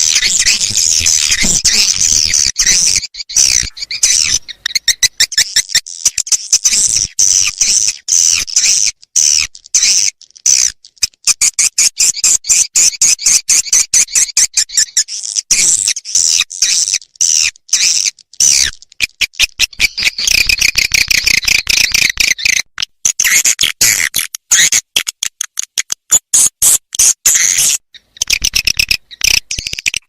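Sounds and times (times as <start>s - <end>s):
recorded swiftlet chirping twitters: 0.0s - 30.0s.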